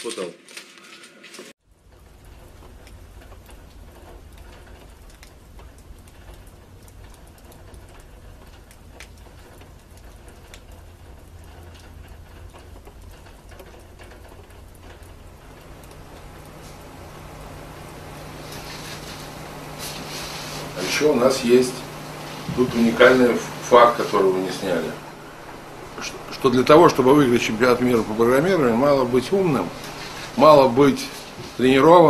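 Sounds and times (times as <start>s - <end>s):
faint clicks and ticks: 1.7s - 32.0s
low steady hum: 1.8s - 32.0s
low background rumble: 1.9s - 32.0s.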